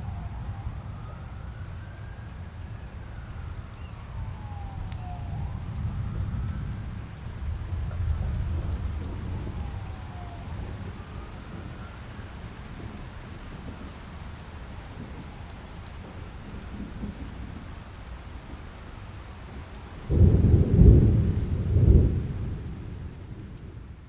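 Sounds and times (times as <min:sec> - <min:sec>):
thunder clap rumbling: 0:00.0 - 0:18.7, 0:19.3 - 0:24.0
rain hiss: 0:00.0 - 0:24.0.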